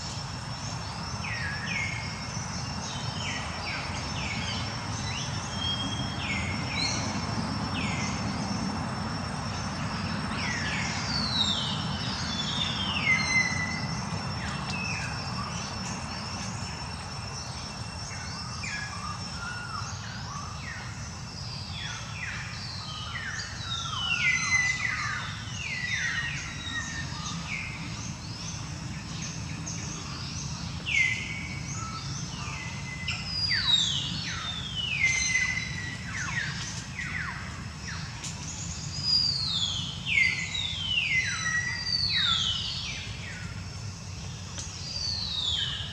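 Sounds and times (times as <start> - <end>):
birds chirping: 0.0 - 45.9
high insect whine: 0.0 - 45.9.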